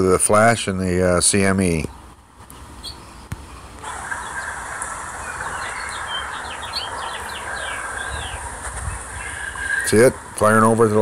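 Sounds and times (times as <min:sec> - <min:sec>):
steady hiss: 0:00.0 - 0:11.0
small birds chirping: 0:01.6 - 0:11.0.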